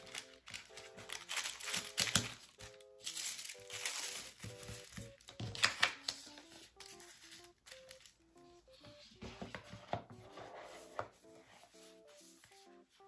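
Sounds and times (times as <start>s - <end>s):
tissue paper rustling: 0.0s - 5.3s, 6.0s - 8.1s, 9.0s - 13.0s
light plucked background music: 0.0s - 13.0s.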